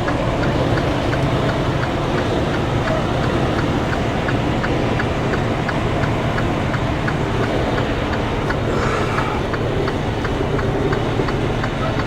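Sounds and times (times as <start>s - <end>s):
light ticking: 0.0s - 12.0s
truck diesel engine running: 0.0s - 12.0s.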